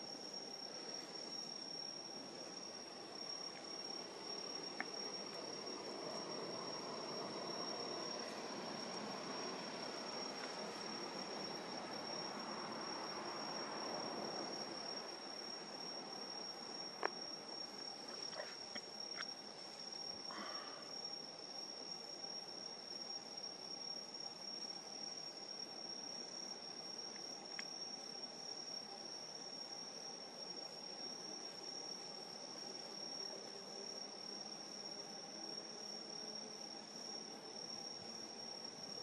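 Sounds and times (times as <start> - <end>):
crickets trilling: 0.0 - 39.0
insects pulsing rapidly: 0.0 - 39.0.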